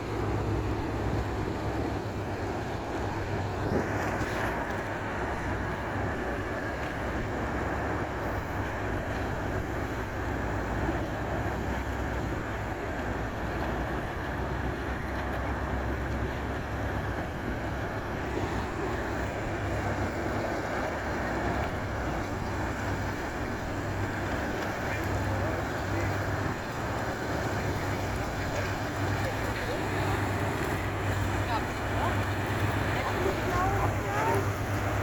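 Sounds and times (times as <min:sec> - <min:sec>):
ferry engines humming: 0:00.0 - 0:35.0.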